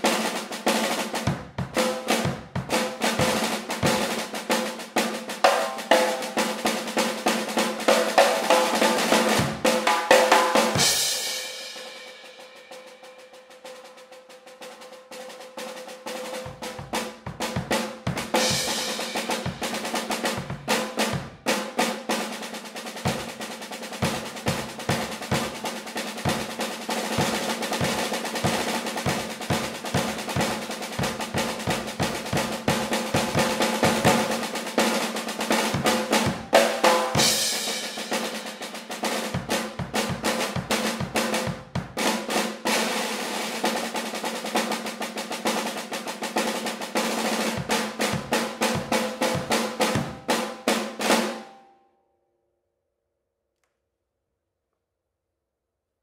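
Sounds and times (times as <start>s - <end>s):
snare drum rolls: 0.0s - 51.6s.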